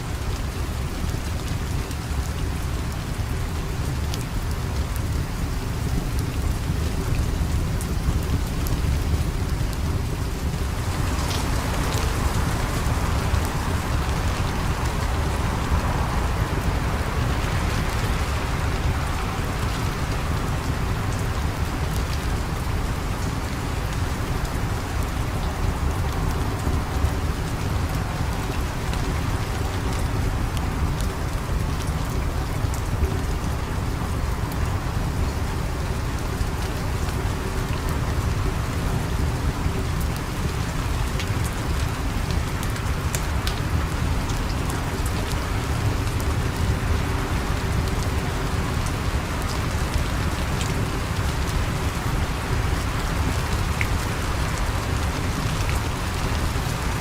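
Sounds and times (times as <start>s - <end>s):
fine ticks of raindrops: 0.0s - 57.0s
steady rain falling: 0.0s - 57.0s.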